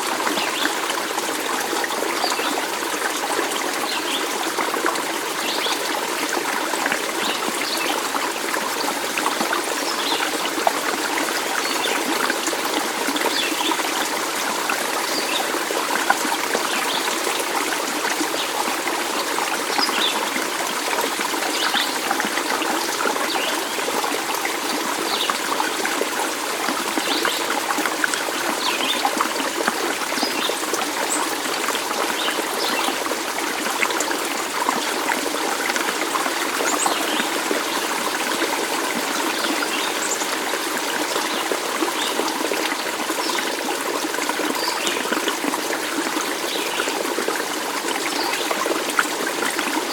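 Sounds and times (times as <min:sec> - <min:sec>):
water babbling in small stream: 0:00.0 - 0:49.9.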